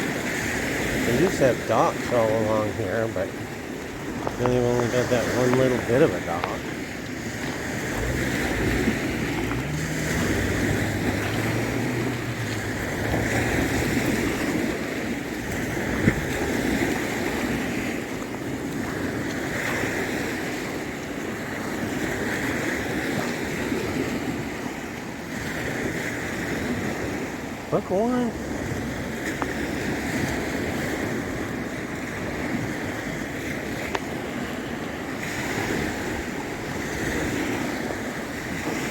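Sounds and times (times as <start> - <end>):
small waves washing ashore: 0.0 - 38.9
wind buffeting microphone: 0.0 - 38.9.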